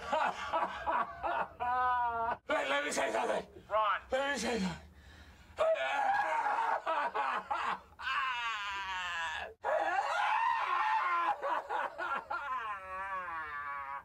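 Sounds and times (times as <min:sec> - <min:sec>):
man crying and wailing: 0:00.0 - 0:03.4, 0:05.6 - 0:14.0.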